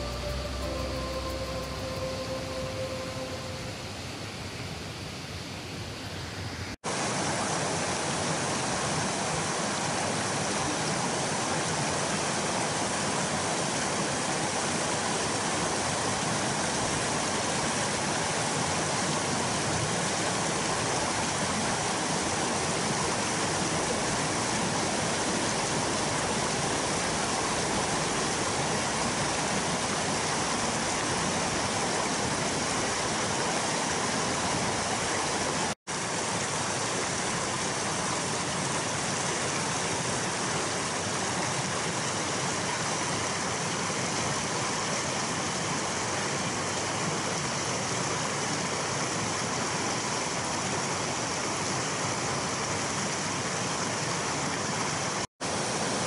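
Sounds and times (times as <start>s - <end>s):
stream rushing over rocks: 6.8s - 56.0s.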